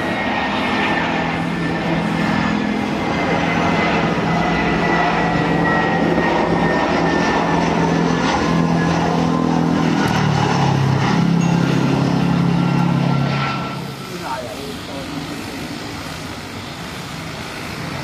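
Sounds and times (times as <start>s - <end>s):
jet engines roaring with whine: 0.0s - 18.0s.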